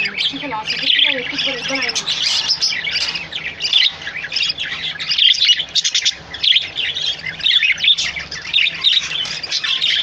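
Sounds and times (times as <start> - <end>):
small birds chirping and twittering: 0.0 - 10.0.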